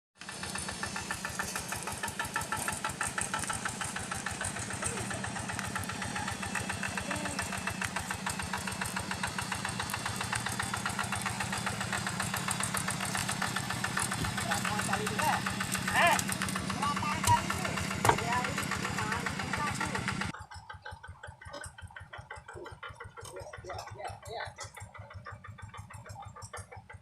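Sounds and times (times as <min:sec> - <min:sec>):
tractor engine chugging: 0:00.2 - 0:27.0.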